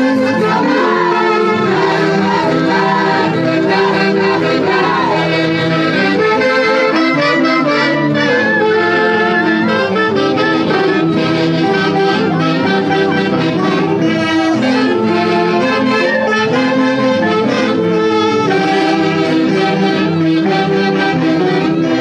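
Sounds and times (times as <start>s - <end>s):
orchestra with saxophones and brass: 0.0s - 22.0s.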